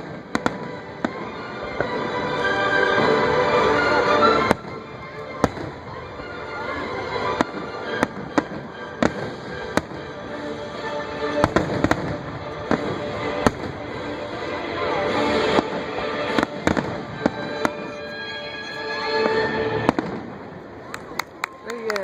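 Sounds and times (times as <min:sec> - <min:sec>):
fireworks bursting: 0:00.0 - 0:21.9
show music: 0:00.0 - 0:22.0.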